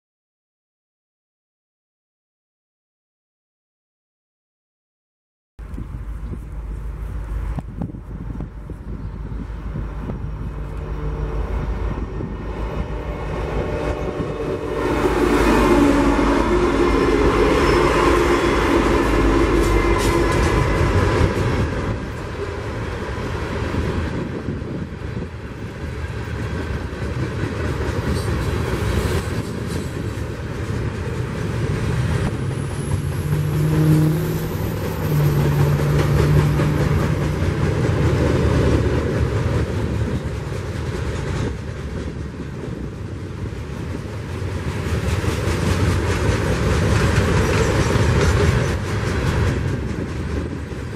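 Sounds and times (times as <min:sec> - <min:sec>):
diesel locomotive engines: 0:05.6 - 0:50.9
train wheels rumbling on rails: 0:05.6 - 0:50.9.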